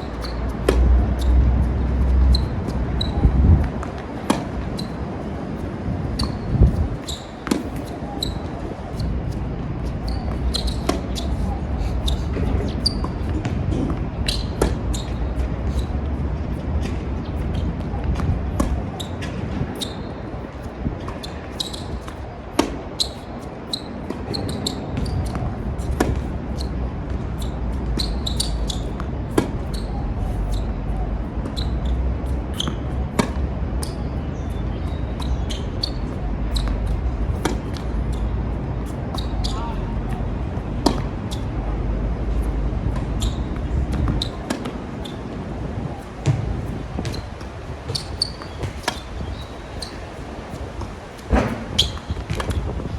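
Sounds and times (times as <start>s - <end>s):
tennis ball bouncing: 0.0s - 20.0s, 21.0s - 30.7s, 31.4s - 34.1s, 34.8s - 41.5s, 42.3s - 45.2s, 46.2s - 52.6s
wind on microphone: 0.0s - 52.9s.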